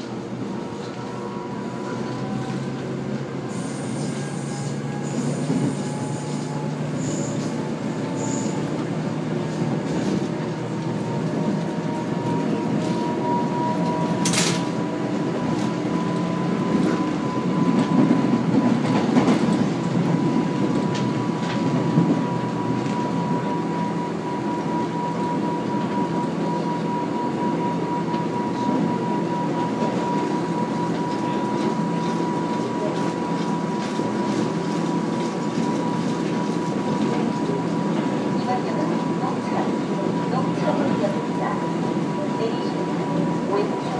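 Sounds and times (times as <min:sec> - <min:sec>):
electric train rolling rumble: 0:00.0 - 0:43.9.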